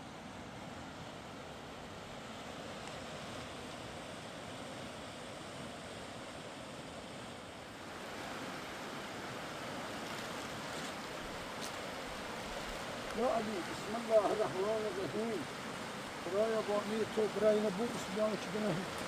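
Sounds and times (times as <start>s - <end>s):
mountain river rushing: 0.0s - 19.0s.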